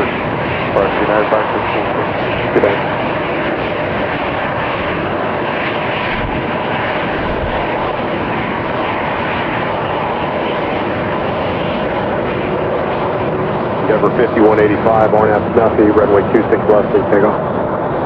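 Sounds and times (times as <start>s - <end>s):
faint jet engine whine: 0.0s - 18.0s
jet engines running: 0.0s - 18.0s.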